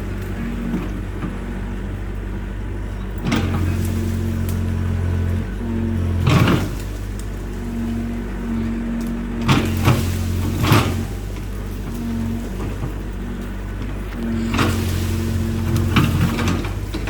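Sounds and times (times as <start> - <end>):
excavator diesel engine running: 0.0 - 17.0
scraping bursts: 3.2 - 17.0.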